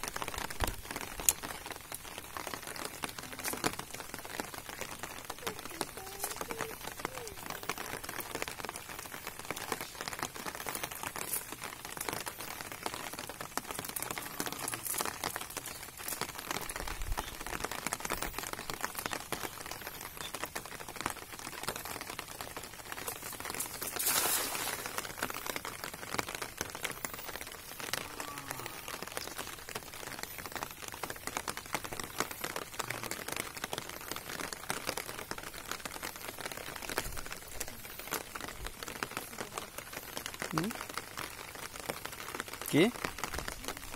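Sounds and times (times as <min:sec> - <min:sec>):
rain pattering on water: 0:00.0 - 0:43.9.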